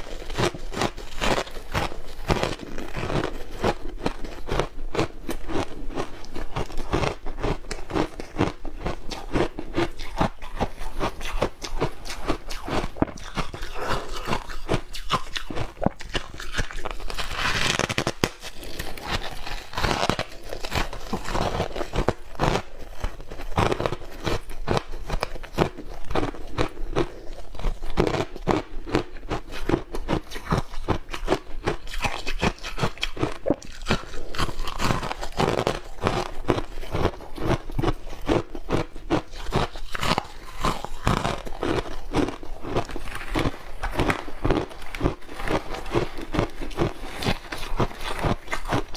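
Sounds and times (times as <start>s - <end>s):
ice crunching between teeth: 0.0s - 48.9s.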